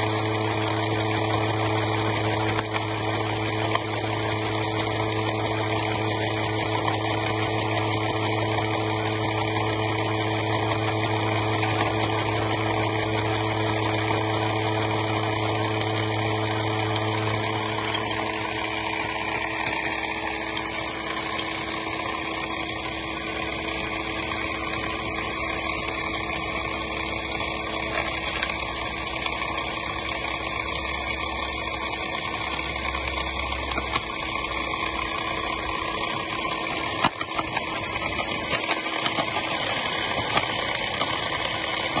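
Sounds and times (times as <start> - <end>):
model stone crusher running: 0.0 - 42.0.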